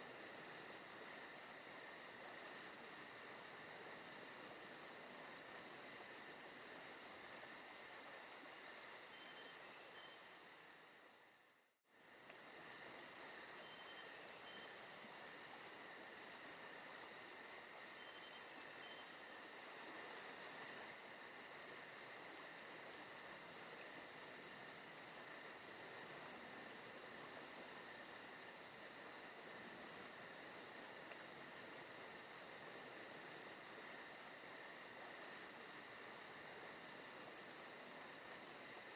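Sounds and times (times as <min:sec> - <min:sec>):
crickets chirping: 0:00.0 - 0:38.9
insect drone: 0:00.0 - 0:38.9.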